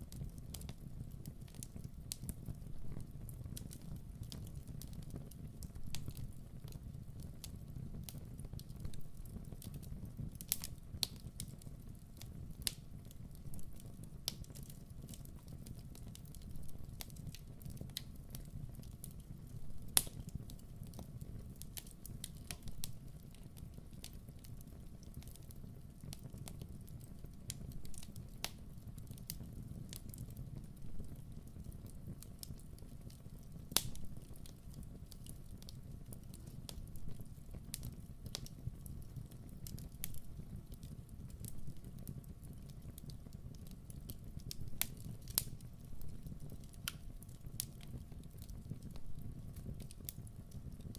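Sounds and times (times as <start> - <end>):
fire crackling in a fireplace: 0.0 - 50.9.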